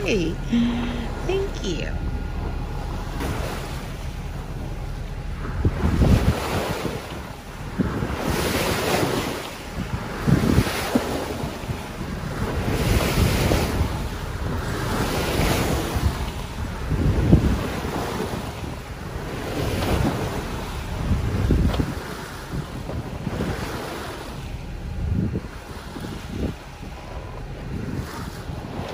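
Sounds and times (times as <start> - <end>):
sea water splashing along bow: 0.0 - 28.9
wind buffeting microphone: 0.0 - 28.9.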